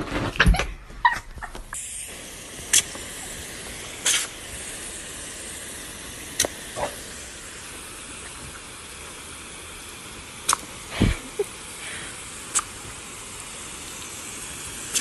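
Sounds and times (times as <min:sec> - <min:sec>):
hose nozzle spraying water: 0:01.0 - 0:15.0.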